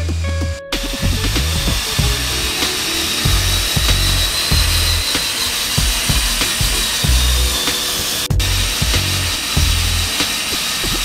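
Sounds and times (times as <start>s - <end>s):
background music with beat: 0.0s - 11.0s
cordless drill motor whine: 1.6s - 11.0s.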